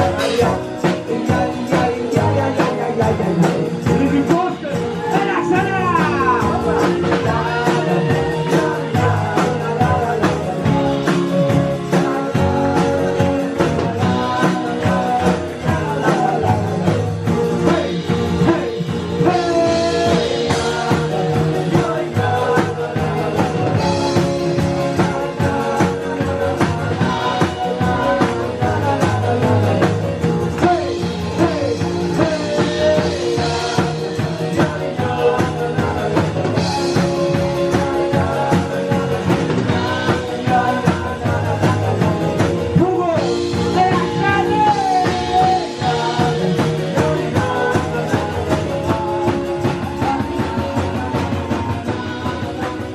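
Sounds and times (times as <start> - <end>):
person singing: 0.0 - 52.9
tambourine shaken: 0.0 - 52.9.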